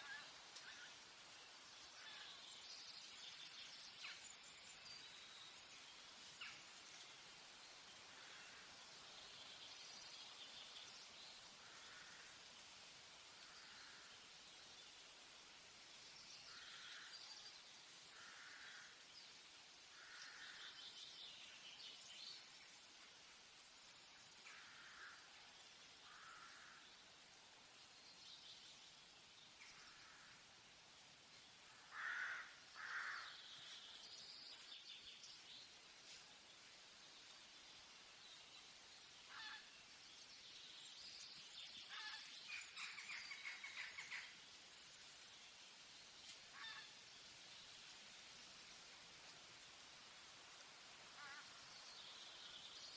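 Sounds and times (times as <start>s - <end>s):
soft steady hiss: 0.0s - 52.9s.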